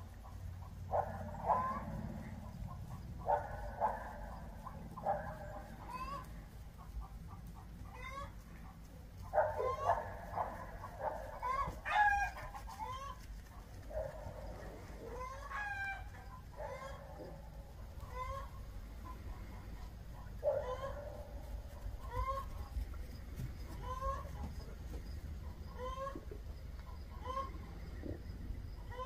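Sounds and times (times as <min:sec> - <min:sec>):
chickens clucking and calling: 0:00.0 - 0:29.0.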